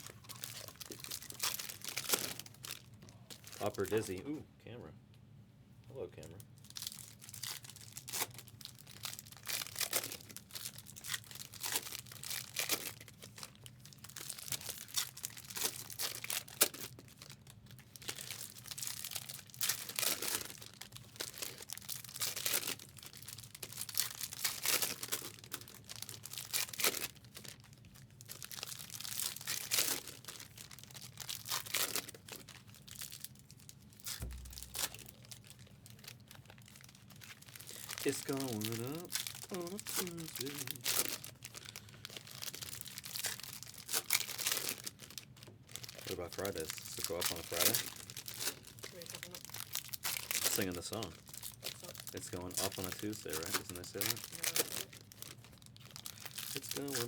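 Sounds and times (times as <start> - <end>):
foil wrappers tearing and crinkling: 0.0 - 4.2, 6.6 - 57.0.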